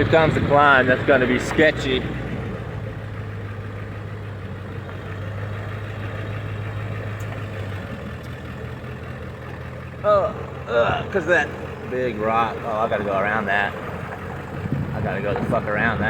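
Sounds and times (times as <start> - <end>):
van engine running: 0.0 - 16.0.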